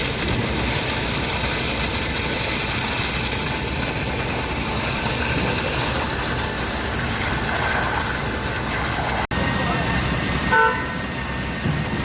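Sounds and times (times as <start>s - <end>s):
pump engine running: 0.0s - 12.0s.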